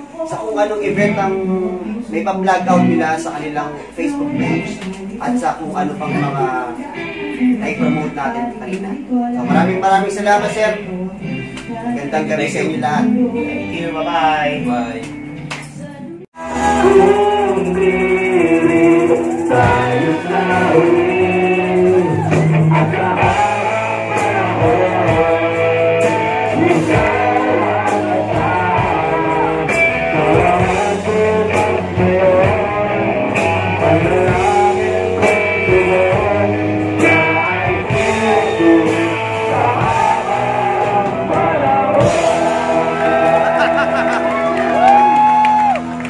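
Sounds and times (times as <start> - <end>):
person singing: 0.0 - 46.0
live rock band playing: 2.6 - 46.0.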